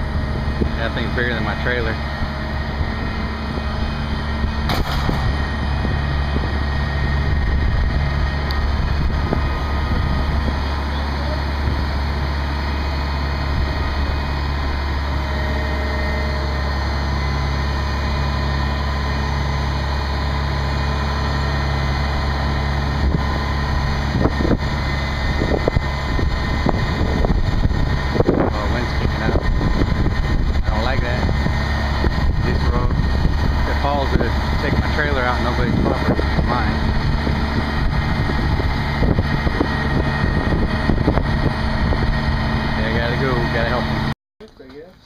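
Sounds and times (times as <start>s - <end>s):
crane engine humming: 0.0s - 44.1s.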